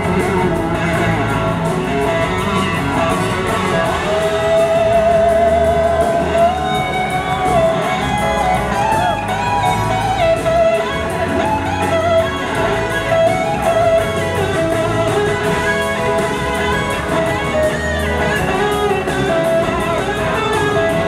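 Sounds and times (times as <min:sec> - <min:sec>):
electric guitar solo: 0:00.0 - 0:21.0
live rock band: 0:00.0 - 0:21.0.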